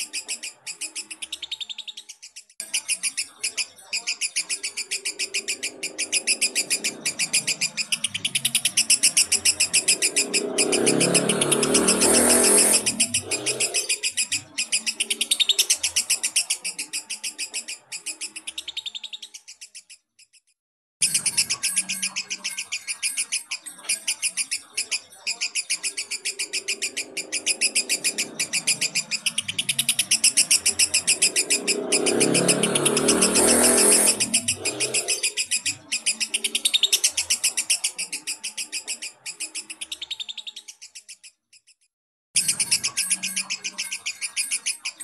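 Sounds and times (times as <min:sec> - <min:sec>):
lovebird chattering trill: 0:00.0 - 0:20.1, 0:21.0 - 0:41.4, 0:42.4 - 0:45.0.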